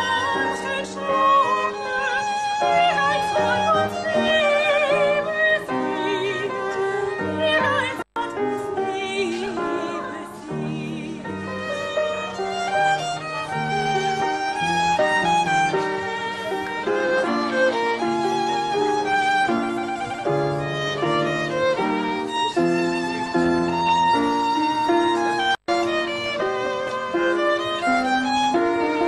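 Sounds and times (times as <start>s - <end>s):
upright piano accompaniment: 0.0s - 29.0s
violins playing a melody: 0.0s - 29.0s.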